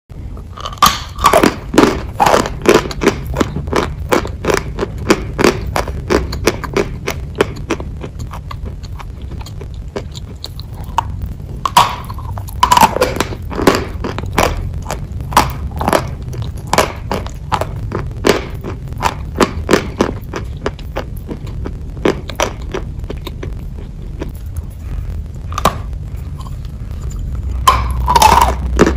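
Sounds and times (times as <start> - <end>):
steady low hum: 0.1 - 28.9
chewing chalk crunches: 0.4 - 28.9.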